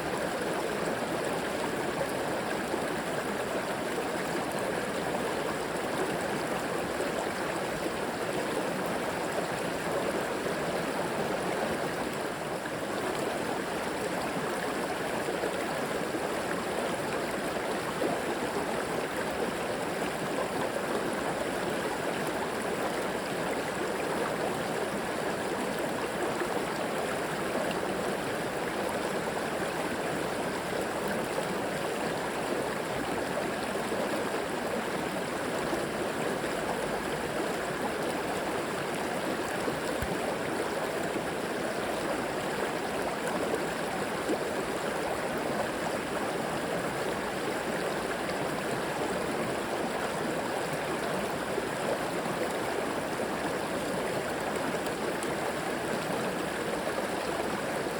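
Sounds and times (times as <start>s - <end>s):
river water babbling over rocks: 0.0s - 57.9s.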